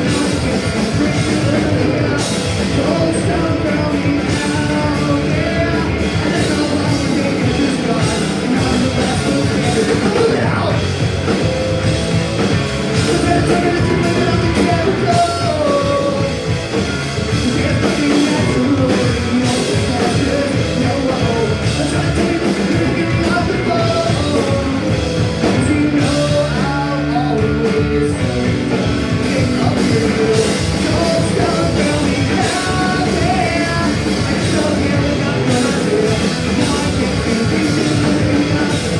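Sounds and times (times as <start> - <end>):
person shouting singing: 0.0 - 11.4, 12.9 - 38.9
punk rock band playing live: 0.0 - 38.9.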